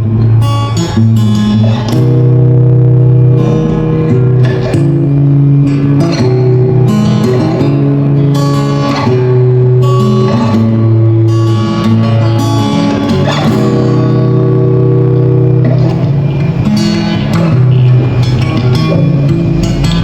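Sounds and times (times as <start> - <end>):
plucked guitar chords: 0.0 - 20.0.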